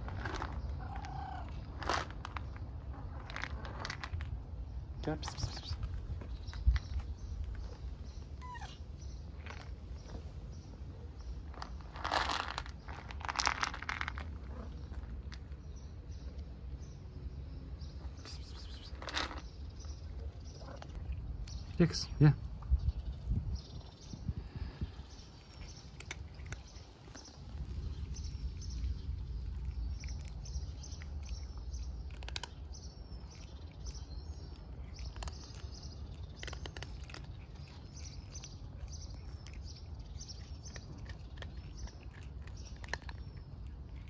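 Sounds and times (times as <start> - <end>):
cats crunching kibble: 0.0 - 44.0
small birds chirping: 0.0 - 44.0
steady low rumble: 0.0 - 44.0.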